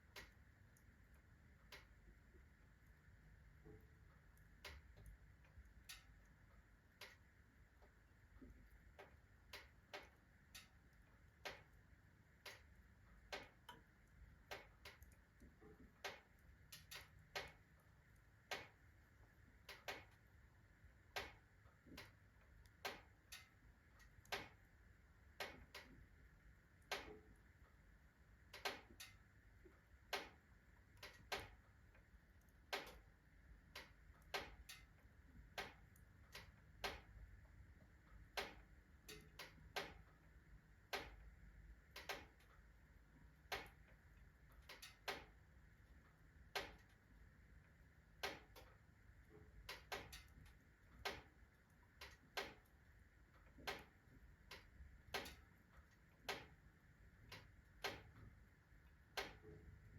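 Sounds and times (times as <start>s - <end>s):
iron stove ticking and clicking: 0.0s - 59.9s.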